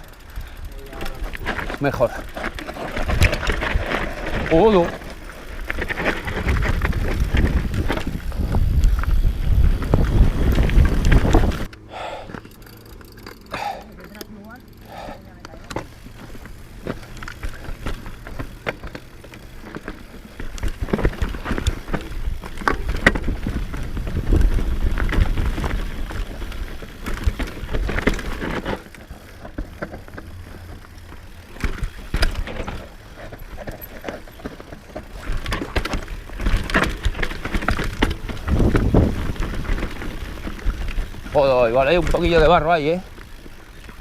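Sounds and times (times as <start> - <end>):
motorcycle clattering over terrain: 0.0 - 44.0.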